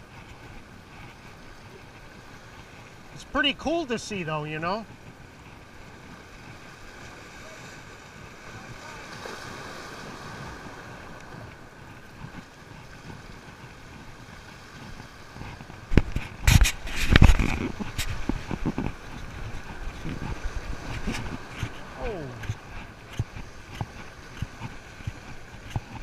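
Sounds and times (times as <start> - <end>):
small waves washing against rocks: 0.0 - 26.0.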